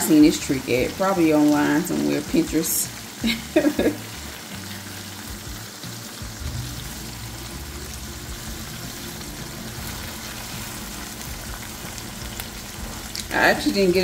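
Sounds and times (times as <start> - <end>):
meat sizzling in a skillet: 0.0 - 14.0
soft background music: 0.0 - 14.0.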